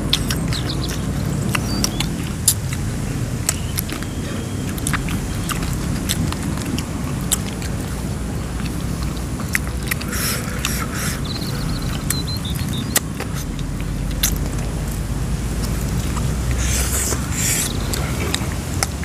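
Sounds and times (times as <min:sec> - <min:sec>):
person chewing and smacking: 0:00.0 - 0:19.0
steady low rumble: 0:00.0 - 0:19.0.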